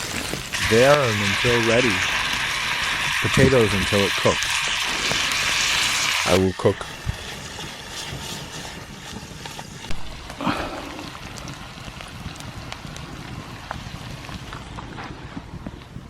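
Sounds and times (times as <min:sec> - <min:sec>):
campfire crackling and snapping: 0:00.0 - 0:16.0
stew simmering in a pot: 0:00.0 - 0:16.0.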